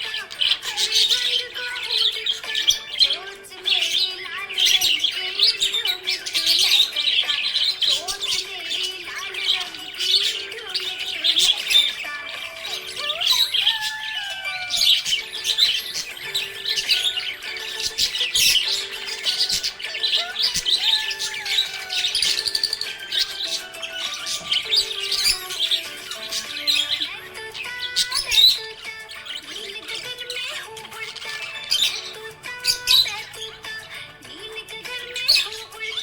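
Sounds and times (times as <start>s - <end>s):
background music with held notes: 0.0s - 36.0s
budgerigars chirping and warbling: 0.0s - 36.0s.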